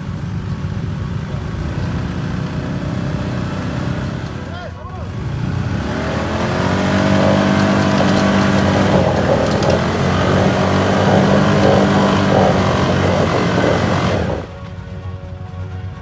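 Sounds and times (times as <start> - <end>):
off-road vehicle engine revving: 0.0 - 14.7.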